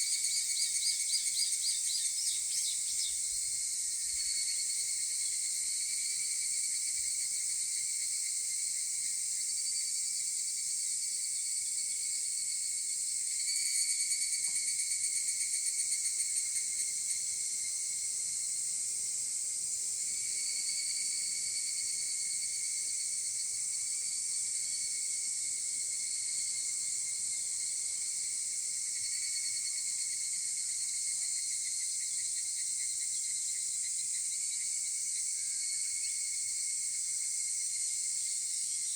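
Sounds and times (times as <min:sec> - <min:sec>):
cicadas chorus calling: 0:00.0 - 0:08.8, 0:11.5 - 0:38.9
high insect hiss: 0:00.0 - 0:38.9
near cicada pulsing call: 0:00.0 - 0:38.9.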